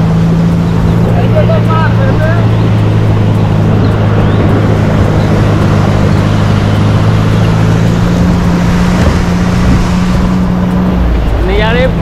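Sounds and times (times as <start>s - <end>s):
tyre and wind rushing noise: 0.0s - 12.0s
vehicle engine droning: 0.0s - 12.0s.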